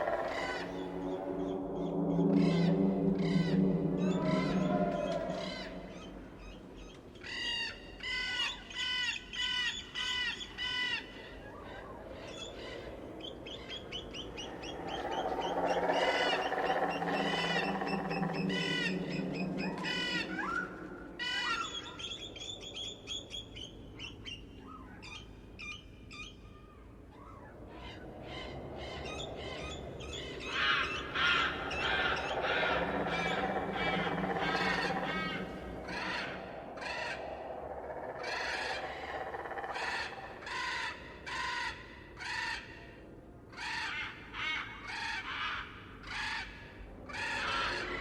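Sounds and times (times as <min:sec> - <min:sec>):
birds calling: 0:00.0 - 0:48.0.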